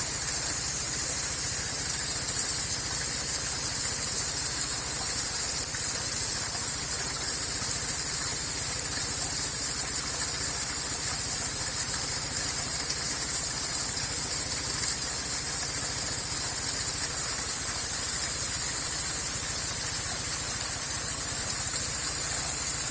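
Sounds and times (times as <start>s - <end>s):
high-pitched hiss: 0.0s - 22.9s.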